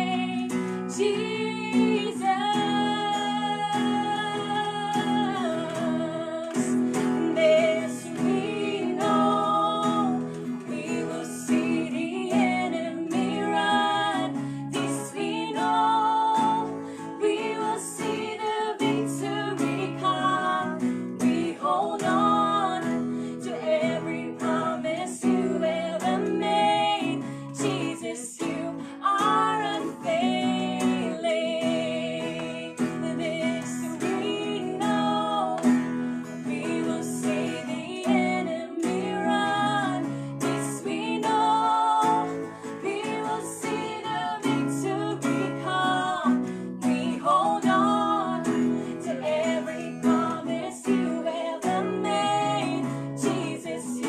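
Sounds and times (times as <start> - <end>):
strummed acoustic guitar: 0.0 - 54.0
women singing worship song: 0.0 - 54.0.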